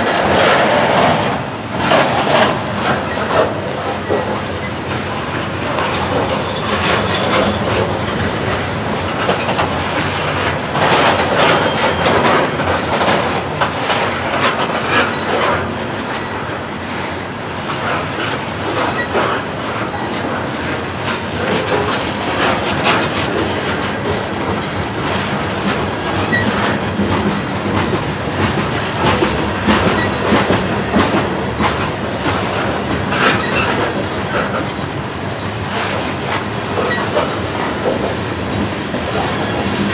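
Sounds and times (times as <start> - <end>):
freight train wheels rumbling on rail: 0.0 - 39.9
wheels clacking over rail joints: 0.0 - 39.9.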